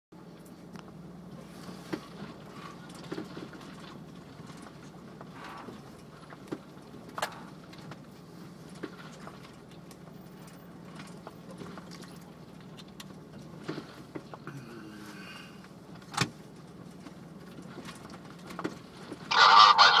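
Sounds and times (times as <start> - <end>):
vehicle engine running: 0.2 - 20.0.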